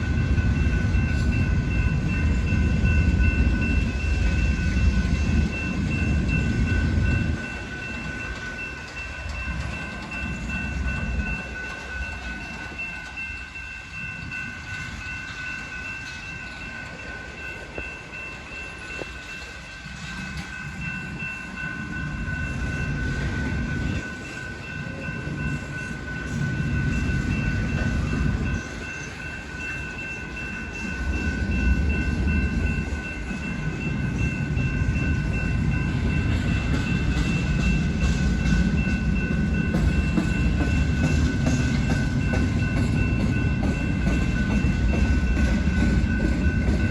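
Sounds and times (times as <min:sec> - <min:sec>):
freight train rumble and wheel clatter: 0:00.0 - 0:46.9
steady high-pitched tone: 0:00.0 - 0:46.9.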